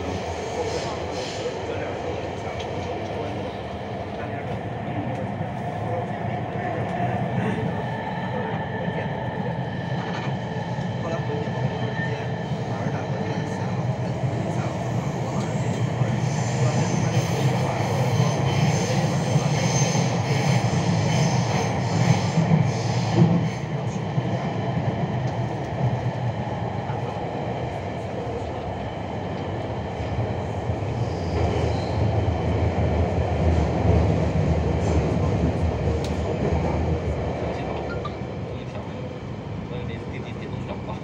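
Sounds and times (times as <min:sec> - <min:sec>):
subway train rumbling: 0:00.0 - 0:41.0.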